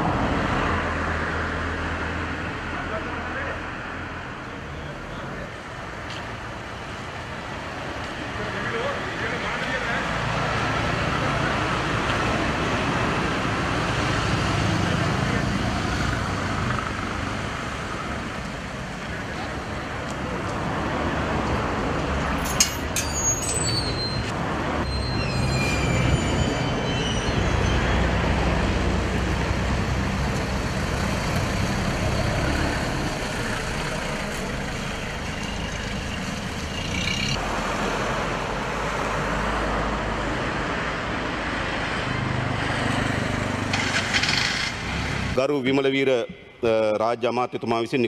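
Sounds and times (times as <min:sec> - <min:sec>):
engine and road rumble: 0:00.0 - 0:45.4.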